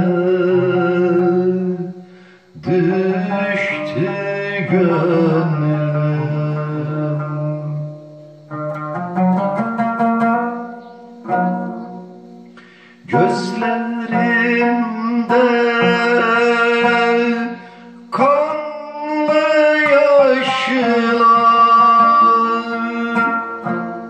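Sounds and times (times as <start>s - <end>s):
man singing: 0.0s - 8.5s, 13.0s - 24.0s
plucked oud: 0.0s - 24.0s.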